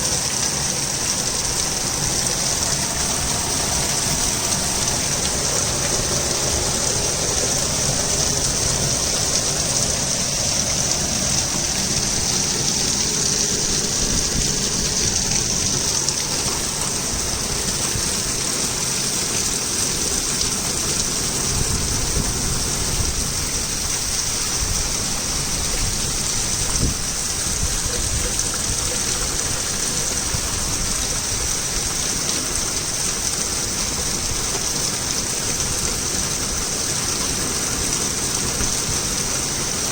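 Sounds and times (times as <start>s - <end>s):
heavy rain on surfaces: 0.0s - 39.9s.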